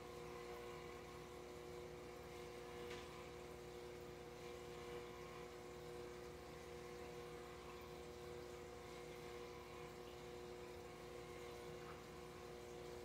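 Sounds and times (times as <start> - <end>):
air pump humming: 0.0 - 13.0.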